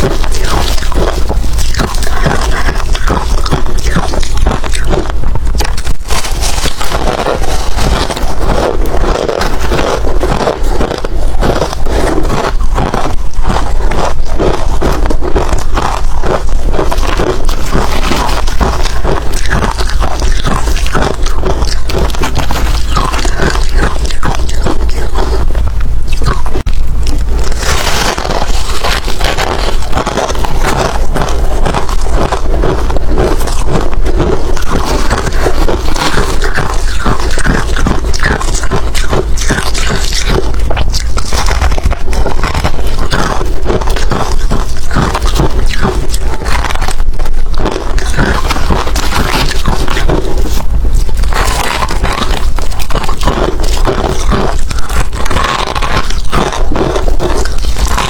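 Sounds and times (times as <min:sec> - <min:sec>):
chewing ice crunching: 0:00.0 - 0:58.0.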